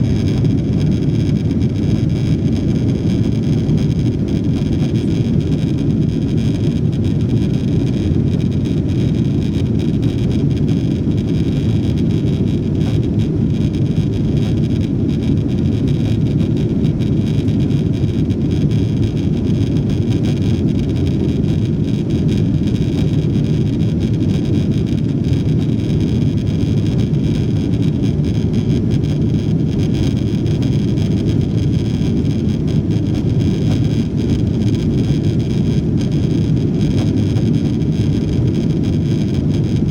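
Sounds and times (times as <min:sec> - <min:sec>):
faint high engine whine: 0:00.0 - 0:39.9.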